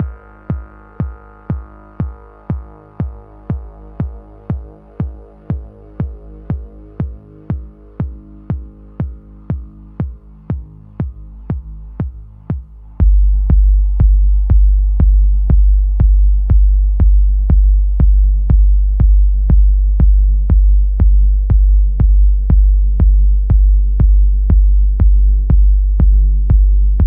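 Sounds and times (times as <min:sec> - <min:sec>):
deep held bass: 0:00.0 - 0:27.0
drum machine kick: 0:00.0 - 0:27.0.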